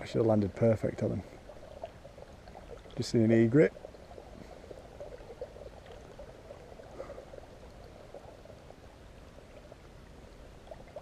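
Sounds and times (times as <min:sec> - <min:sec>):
river water babbling: 0:00.0 - 0:11.0.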